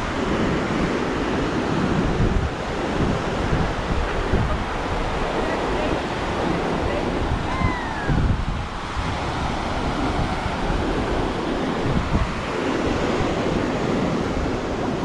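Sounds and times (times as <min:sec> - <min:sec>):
ocean surf on sandy beach: 0:00.0 - 0:15.0
wind buffeting microphone: 0:00.0 - 0:15.0.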